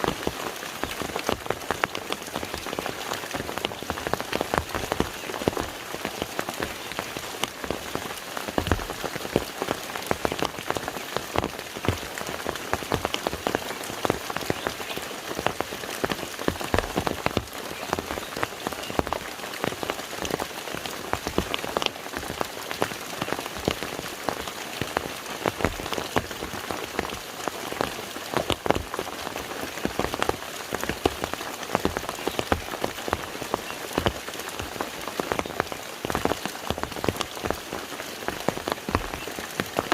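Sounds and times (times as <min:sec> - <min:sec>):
rain splashing on lake water: 0:00.0 - 0:39.9.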